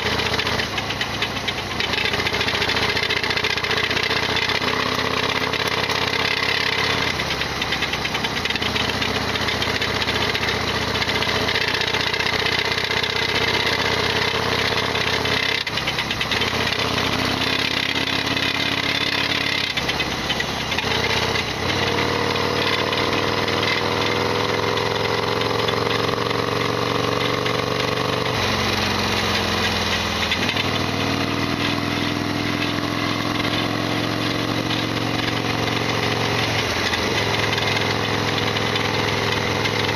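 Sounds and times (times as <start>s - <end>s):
engine mechanical rattle: 0.0s - 39.9s
motorcycle engine running: 0.0s - 39.9s.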